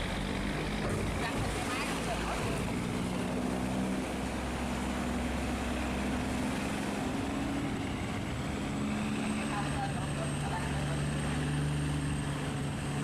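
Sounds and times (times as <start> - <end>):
boat engines droning: 0.0 - 13.0
fast-flowing water rushing: 0.0 - 13.0.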